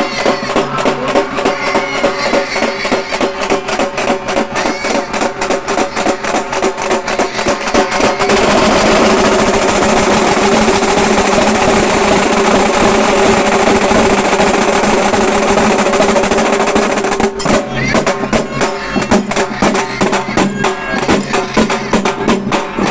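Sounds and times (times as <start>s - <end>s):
frame drums playing: 0.0s - 22.9s.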